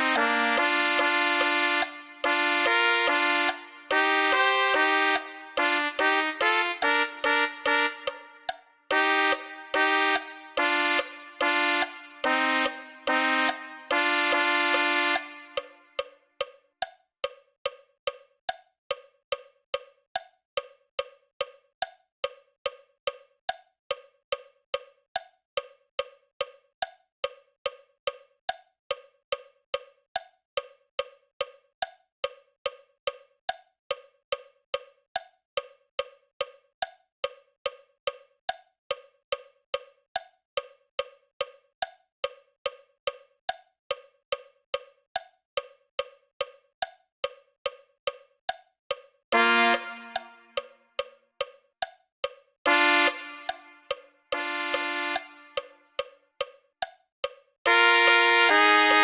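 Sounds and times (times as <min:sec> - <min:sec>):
metronome clicking: 0:00.0 - 0:57.5.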